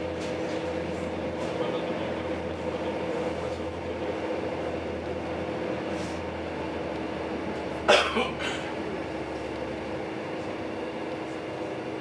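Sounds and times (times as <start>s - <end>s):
constant drive hum: 0.0s - 12.0s
train wheels rumbling on track: 0.0s - 12.0s.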